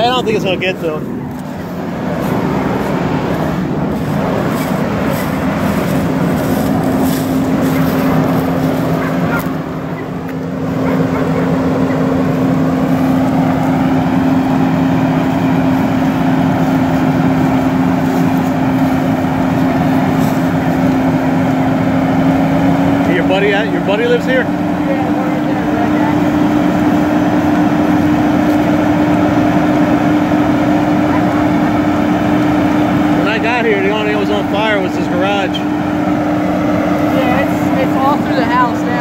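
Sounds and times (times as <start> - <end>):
broad rushing noise: 0.0 - 39.0
vehicle engine running: 0.0 - 39.0.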